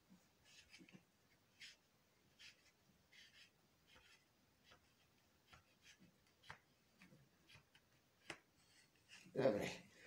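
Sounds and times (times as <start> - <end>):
faint scratching and rustling: 0.0 - 9.8.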